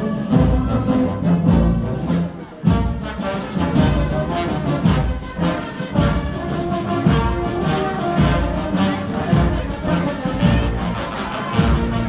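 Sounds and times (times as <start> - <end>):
brass band playing dance tune: 0.0 - 12.0.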